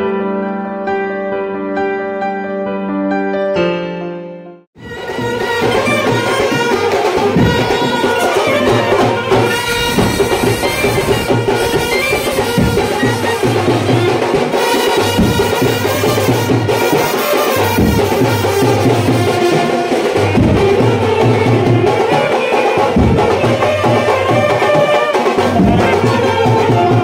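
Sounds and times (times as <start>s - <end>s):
brass instruments playing: 4.8s - 27.0s
loud steady drumming: 4.8s - 27.0s.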